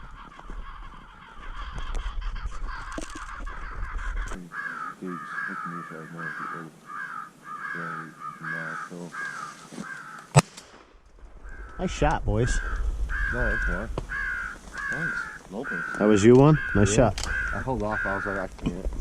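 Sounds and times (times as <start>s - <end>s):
crows cawing: 0.0s - 10.4s, 11.3s - 18.7s.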